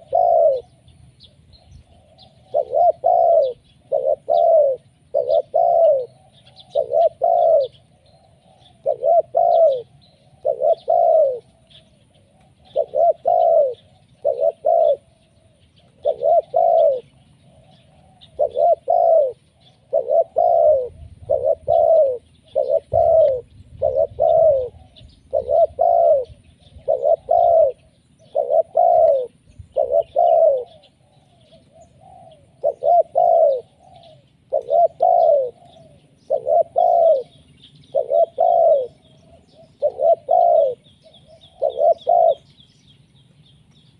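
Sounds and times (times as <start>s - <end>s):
dove cooing: 0.0s - 42.8s
small birds chirping: 0.0s - 43.9s.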